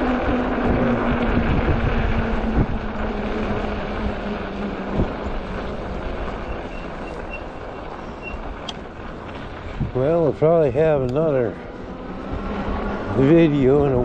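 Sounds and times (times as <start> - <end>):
tyres rolling through slush: 0.0 - 14.0
wind on microphone: 0.0 - 14.0.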